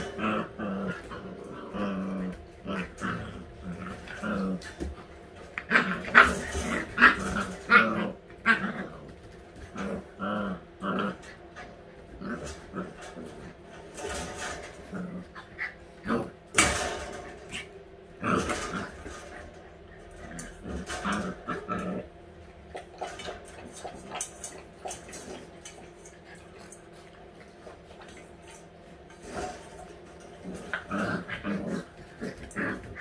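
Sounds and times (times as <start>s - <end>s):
puppies growling and yipping: 0.0s - 33.0s.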